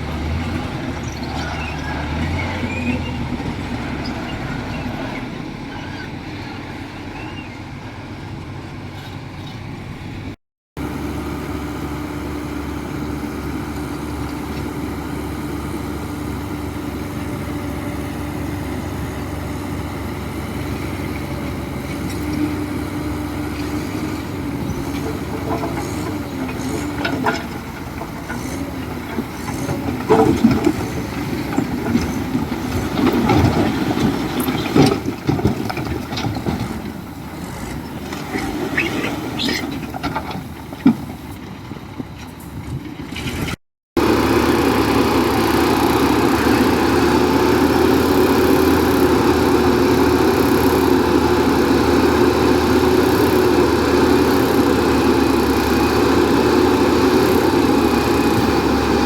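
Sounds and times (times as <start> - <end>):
diesel machinery engine: 0.0 - 59.0.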